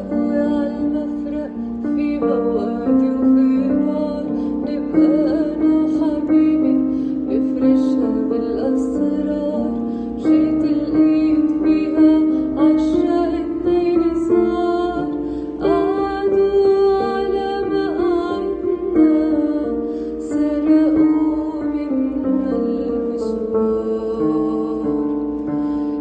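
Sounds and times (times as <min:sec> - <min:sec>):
woman singing: 0:00.0 - 0:26.0.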